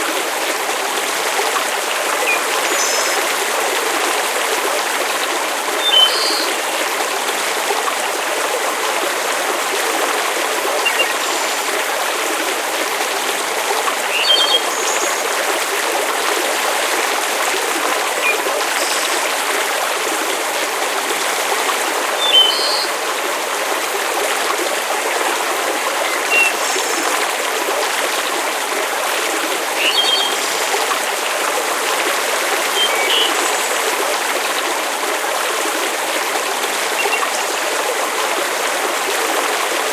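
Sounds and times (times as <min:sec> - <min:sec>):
flowing water wash: 0:00.0 - 0:39.9.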